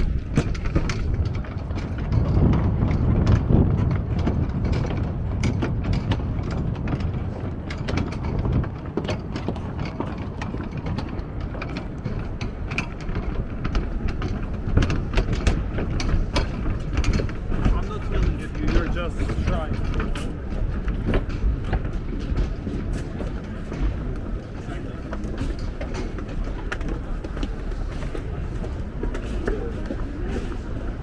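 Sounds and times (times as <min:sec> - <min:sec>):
low city rumble: 0:00.0 - 0:31.0.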